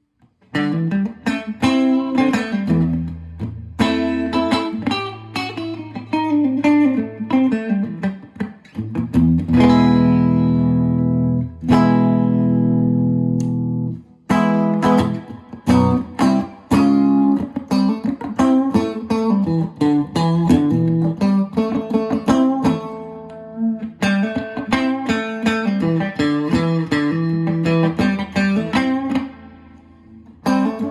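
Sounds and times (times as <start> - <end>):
guitar playing: 0.0 - 30.9.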